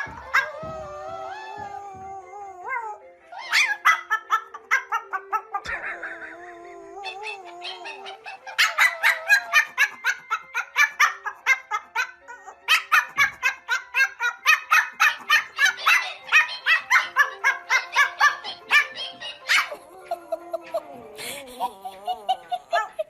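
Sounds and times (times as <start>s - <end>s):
puppy yapping: 0.0s - 5.6s, 6.9s - 19.9s
light background music: 0.0s - 23.0s.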